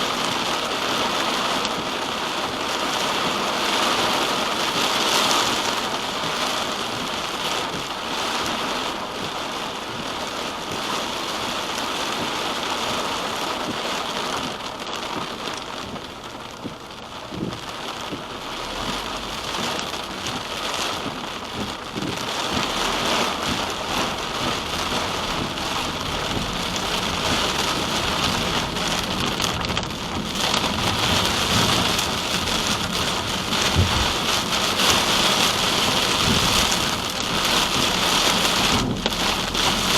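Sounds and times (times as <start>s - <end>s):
rain on a moving car: 0.0s - 39.9s.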